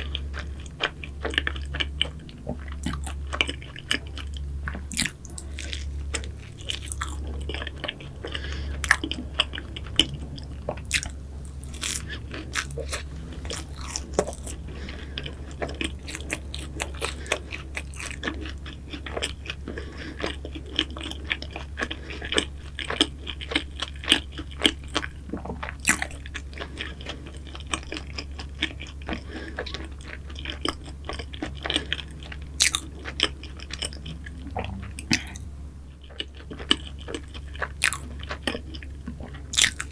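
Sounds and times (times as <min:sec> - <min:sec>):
crunchy pastry chewing: 0:00.0 - 0:39.9
steady low hum: 0:00.0 - 0:39.9.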